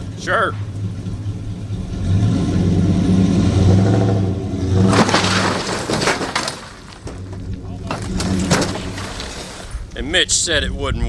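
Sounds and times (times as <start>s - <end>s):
metal scraping and clattering: 0.0s - 10.0s
truck engine revving: 0.0s - 10.9s.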